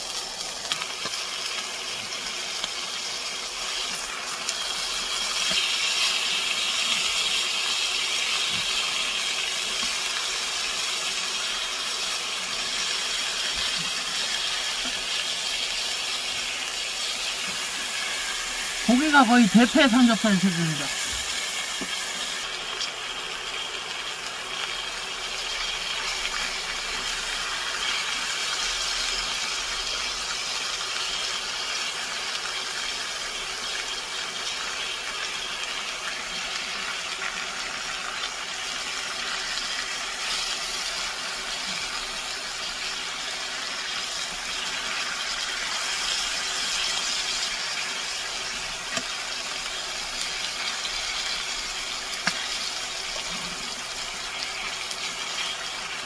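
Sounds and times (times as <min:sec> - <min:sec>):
meat sizzling in a frying pan: 0:00.0 - 0:56.0.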